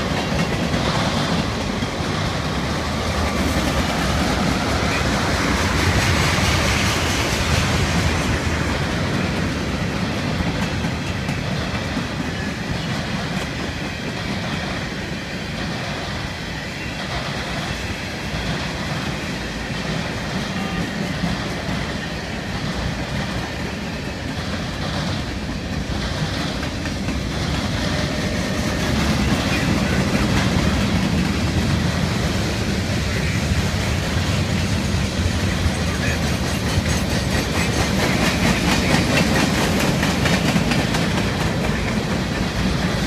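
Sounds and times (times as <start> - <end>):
clickety-clack over rail joints: 0.0 - 43.0
freight train wheels rumbling: 0.0 - 43.0.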